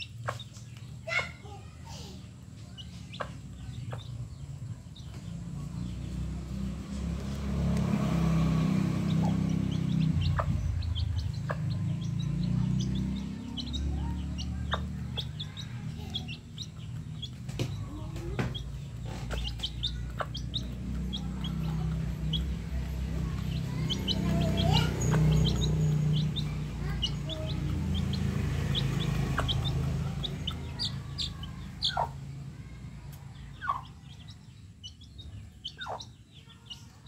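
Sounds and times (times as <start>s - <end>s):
pecking on concrete: 0.0s - 1.4s, 2.3s - 37.0s
chicks peeping: 0.0s - 37.0s
low rumble: 3.6s - 35.9s.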